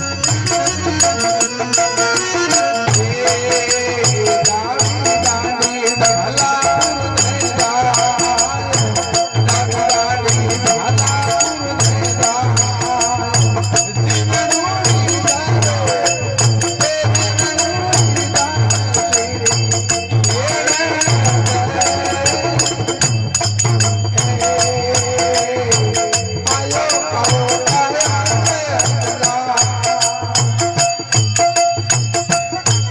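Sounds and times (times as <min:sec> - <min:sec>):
jingling percussion: 0:00.0 - 0:32.9
steady drum beat: 0:00.0 - 0:32.9.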